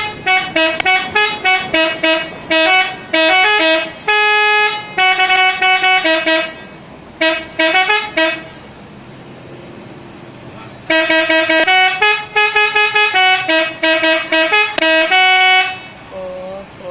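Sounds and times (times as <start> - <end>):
multi-tone bus horn tune: 0.0 - 8.8, 10.8 - 16.1.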